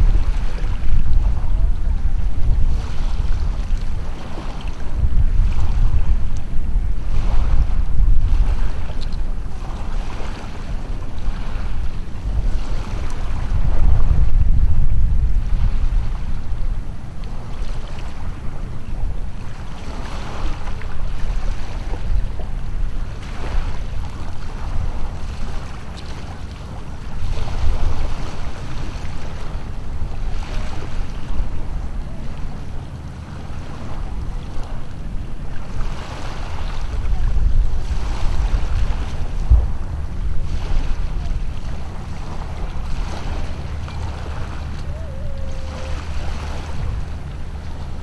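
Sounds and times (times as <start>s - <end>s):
small waves washing on shore: 0.0s - 48.0s
wind buffeting microphone: 0.0s - 48.0s.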